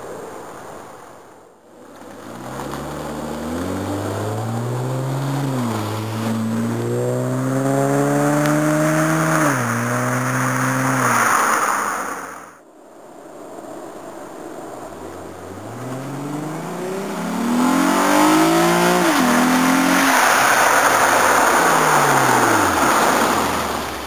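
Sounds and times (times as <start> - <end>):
car exhaust accelerating hard: 1.8 - 12.5, 15.0 - 24.0.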